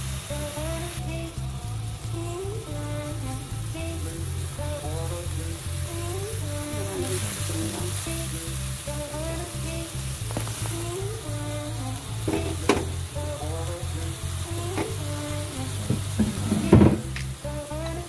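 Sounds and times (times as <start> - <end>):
background music with steady beat: 0.0 - 18.0
food sizzling in a wok: 0.0 - 18.0.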